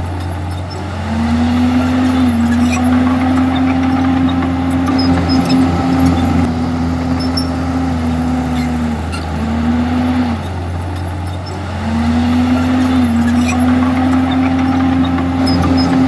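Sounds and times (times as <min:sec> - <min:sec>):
bulldozer diesel engine under load: 0:00.0 - 0:16.0.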